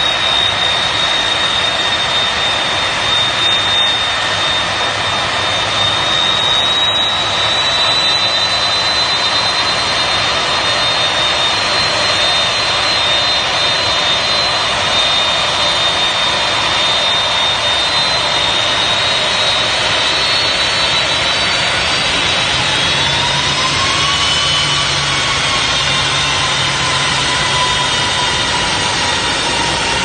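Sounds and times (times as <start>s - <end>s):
jet engines roaring with whine: 0.0s - 30.0s
lower engine whine: 0.0s - 30.0s.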